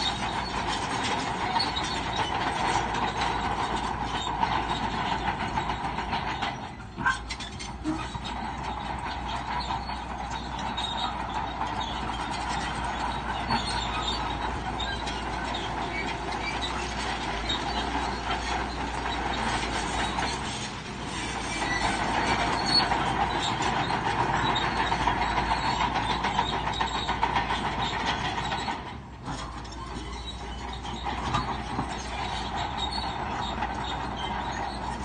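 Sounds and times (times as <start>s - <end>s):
bulldozer engine running: 0.0s - 35.0s
steel tracks clanking and squealing: 0.0s - 35.0s.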